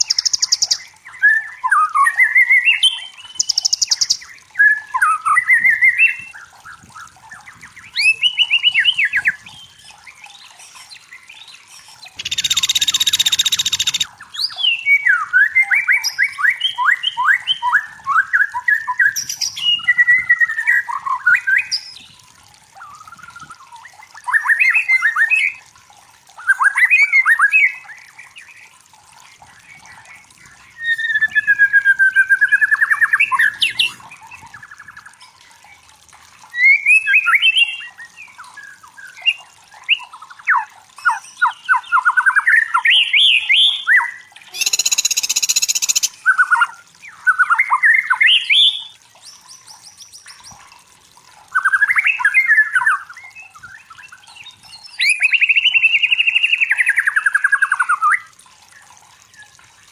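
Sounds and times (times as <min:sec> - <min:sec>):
bird singing whistles and trills: 0:00.0 - 0:22.2, 0:29.7 - 0:35.1, 0:36.5 - 0:50.6, 0:51.5 - 0:58.3.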